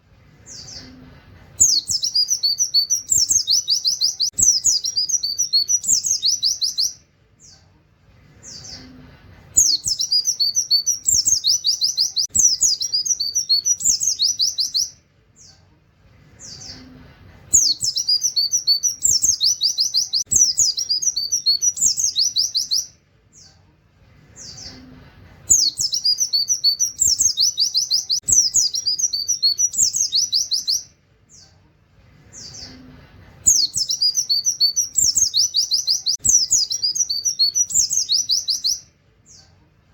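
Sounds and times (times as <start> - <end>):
bird chattering song: 1.6 - 7.7, 9.6 - 15.6, 16.4 - 23.6, 25.5 - 31.6, 32.3 - 39.6.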